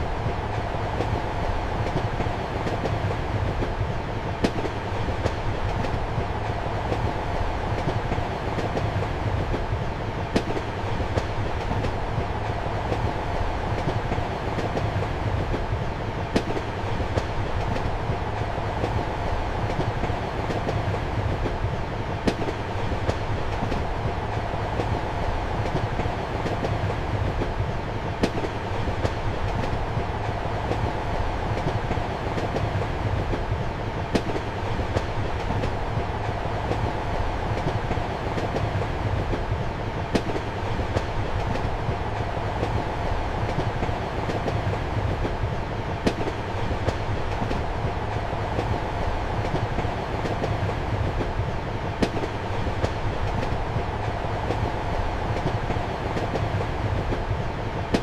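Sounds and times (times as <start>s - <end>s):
train wheels clacking: 0.0s - 58.0s
train wheels rumbling on rails: 0.0s - 58.0s.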